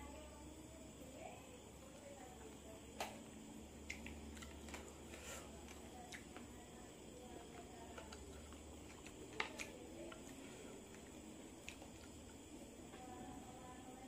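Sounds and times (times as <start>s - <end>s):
faint eating sounds: 0.0s - 14.0s.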